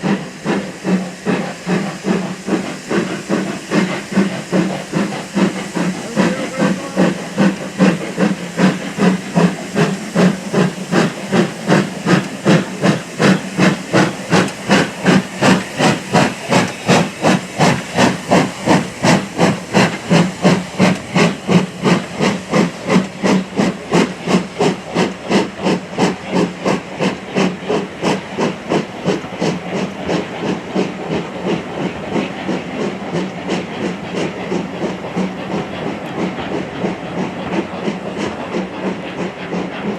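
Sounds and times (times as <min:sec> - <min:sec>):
hissing steam: 0:00.0 - 0:39.9
steam locomotive chuffing: 0:00.0 - 0:39.9.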